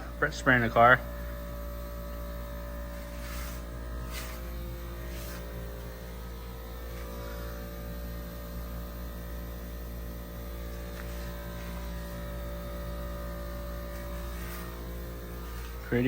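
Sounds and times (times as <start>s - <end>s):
electric fans humming: 0.0s - 16.0s.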